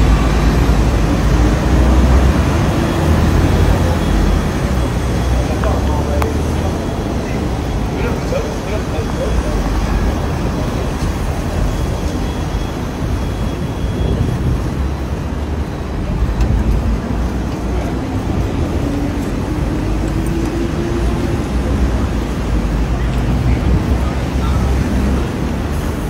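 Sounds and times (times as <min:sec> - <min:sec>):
buses and cars passing: 0:00.0 - 0:26.0.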